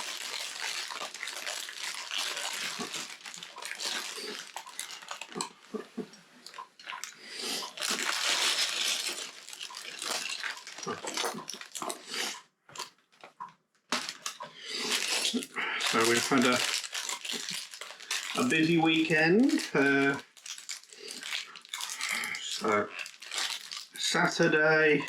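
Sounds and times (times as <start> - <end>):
plastic bag rustling: 0.0 - 12.4, 13.9 - 24.1.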